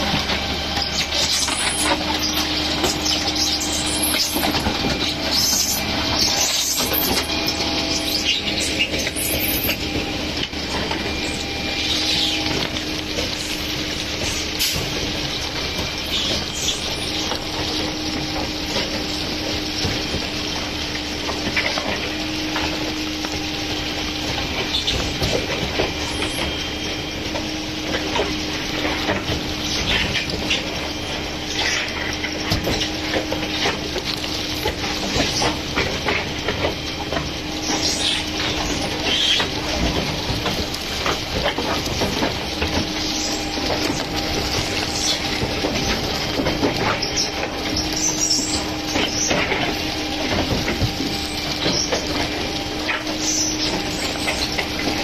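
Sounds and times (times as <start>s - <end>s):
concrete pump running: 0.0s - 55.0s.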